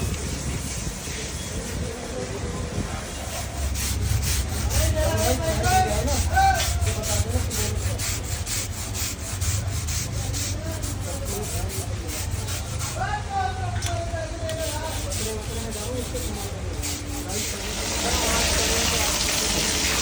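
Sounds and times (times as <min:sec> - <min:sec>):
brush scrubbing back and forth: 0:00.0 - 0:13.0, 0:14.5 - 0:19.8.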